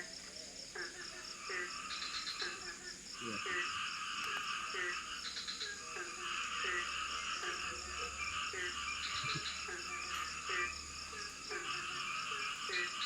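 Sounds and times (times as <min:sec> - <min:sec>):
frogs calling: 0:00.0 - 0:13.0
pulsing insect drone: 0:00.0 - 0:13.0.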